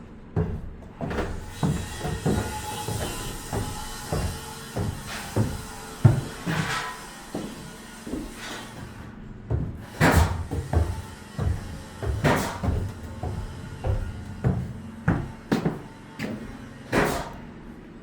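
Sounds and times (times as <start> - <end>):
construction knocks and thuds: 0.3 - 17.5.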